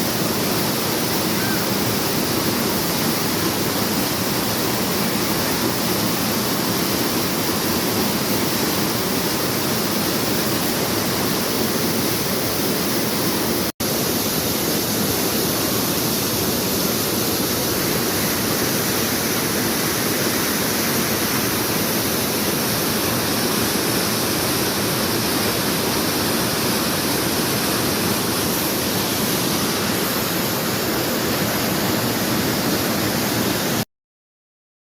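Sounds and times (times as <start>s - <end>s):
waterfall rushing: 0.0s - 33.8s.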